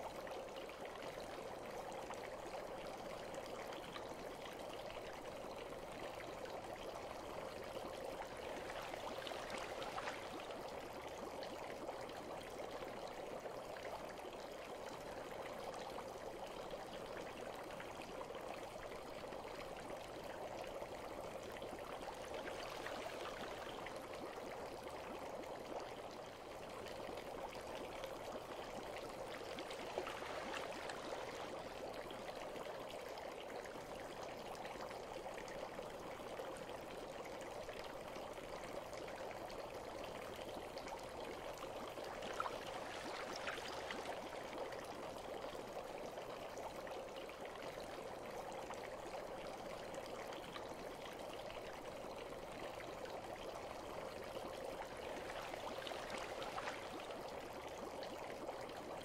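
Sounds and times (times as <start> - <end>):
trickle of running water: 0.0 - 59.0.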